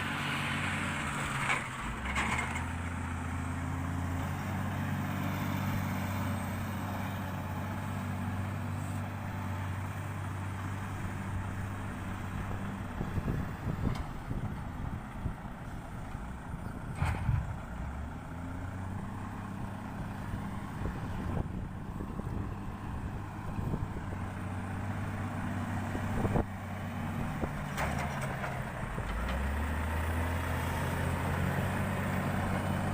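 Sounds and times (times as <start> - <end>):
heavy diesel engine running: 0.0 - 32.9.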